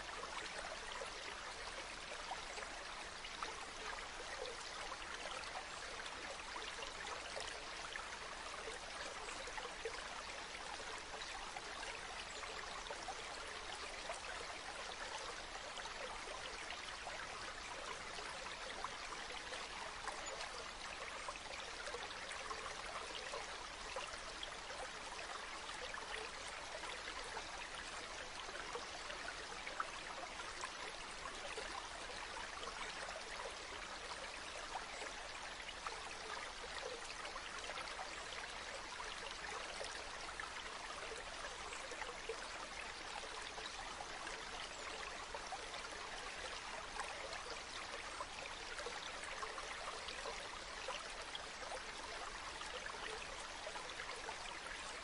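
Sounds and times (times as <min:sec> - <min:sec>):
stream running over pebbles: 0:00.0 - 0:55.0.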